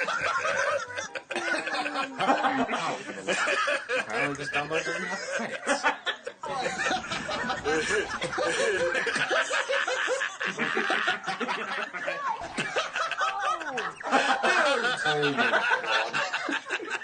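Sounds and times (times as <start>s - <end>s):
men laughing together: 0.0s - 17.0s.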